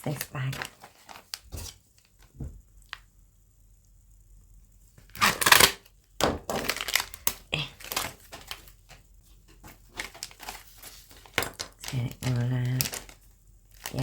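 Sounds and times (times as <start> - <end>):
plastic bag crinkling: 0.0 - 3.0, 5.0 - 14.0.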